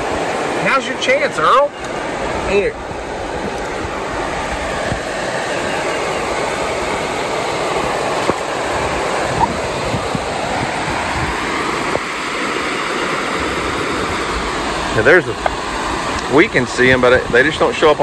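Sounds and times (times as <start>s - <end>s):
water pouring over waterfall: 0.0s - 18.0s.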